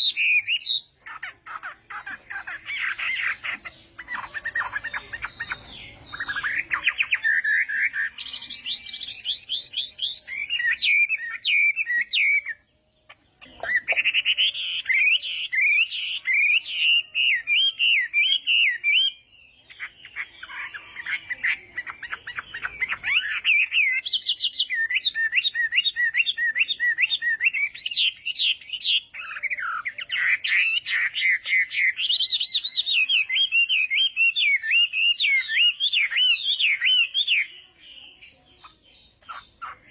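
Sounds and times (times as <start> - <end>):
bird singing whistled trills: 0.0 - 39.9.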